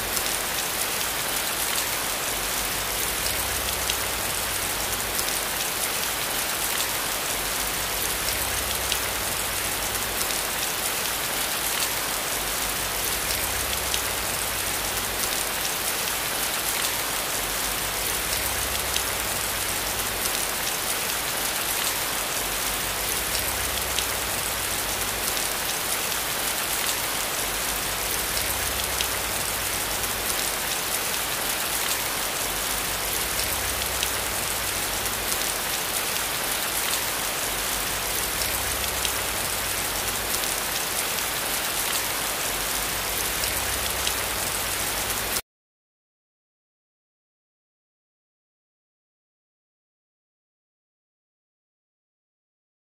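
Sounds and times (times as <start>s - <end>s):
falling water hiss and patter: 0.0s - 45.4s.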